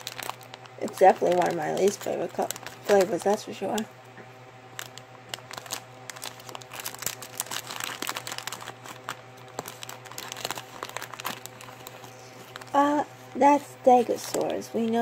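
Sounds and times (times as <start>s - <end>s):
plastic candy packet crinkling: 0.0s - 3.9s, 4.7s - 13.0s, 13.6s - 15.0s.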